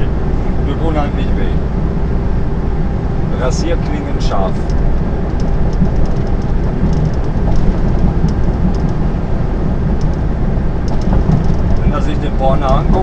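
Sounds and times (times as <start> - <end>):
truck cab engine and road rumble: 0.0 - 13.0.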